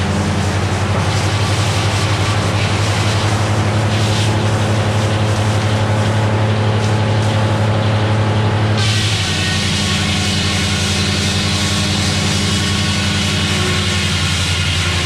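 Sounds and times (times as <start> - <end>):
saw blade cutting log: 0.0 - 7.7, 8.8 - 15.0
diesel engine running: 0.0 - 15.0.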